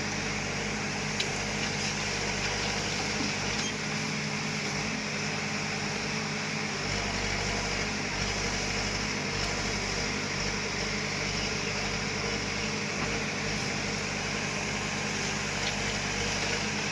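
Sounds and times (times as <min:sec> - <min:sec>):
diesel engine rumbling: 0:00.0 - 0:16.9.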